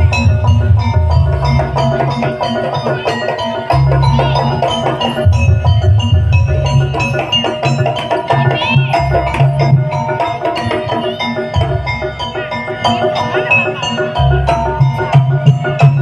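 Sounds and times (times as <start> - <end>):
ringing metal percussion: 0.0 - 16.0.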